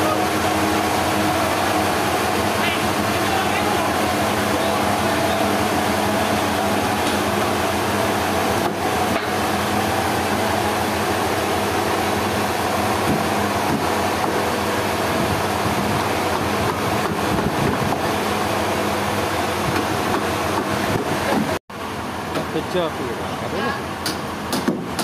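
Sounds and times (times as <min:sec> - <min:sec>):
sawmill machinery drone: 0:00.0 - 0:25.0.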